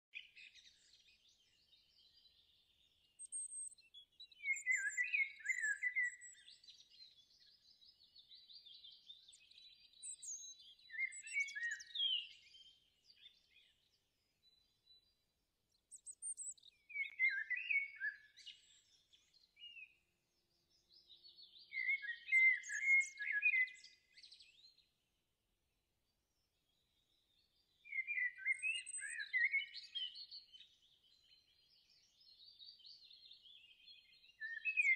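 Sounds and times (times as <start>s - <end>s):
songbird chirping and trilling: 0.1s - 34.9s.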